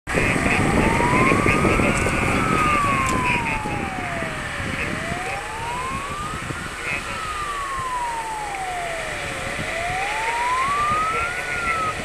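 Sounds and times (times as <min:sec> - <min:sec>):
fire engine siren wailing: 0:00.1 - 0:12.0
low rumble: 0:00.1 - 0:12.0.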